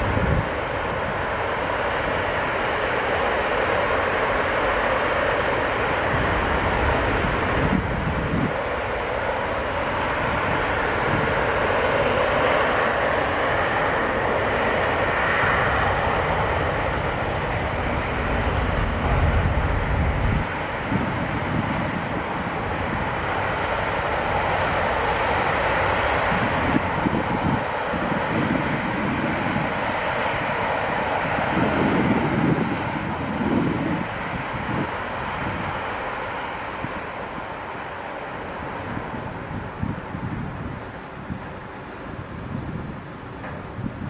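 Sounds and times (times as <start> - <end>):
jet engines running: 0.0 - 44.0.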